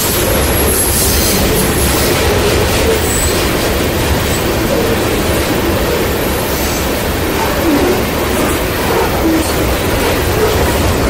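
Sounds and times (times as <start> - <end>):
high wheel squeals: 0.0 - 11.0
train wheels rumbling on rail: 0.0 - 11.0.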